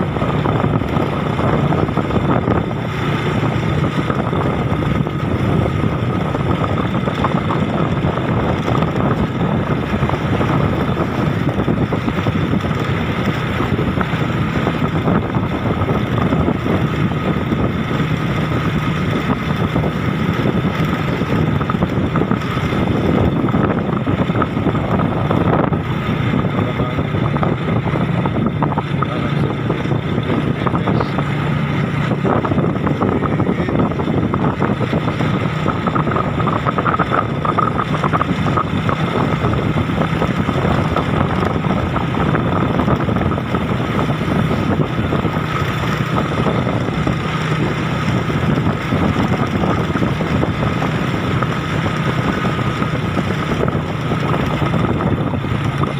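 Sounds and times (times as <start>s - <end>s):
vehicle engine running: 0.0s - 55.9s
wind noise on microphone: 0.0s - 55.9s.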